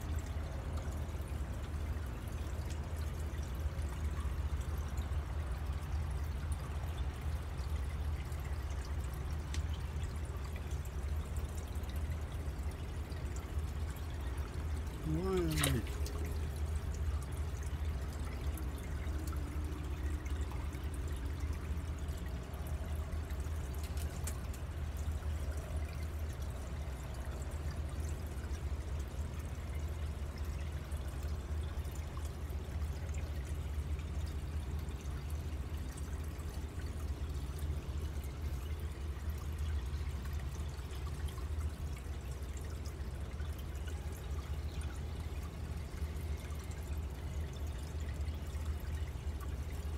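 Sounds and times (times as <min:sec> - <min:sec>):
water pouring into pond: 0:00.0 - 0:49.9.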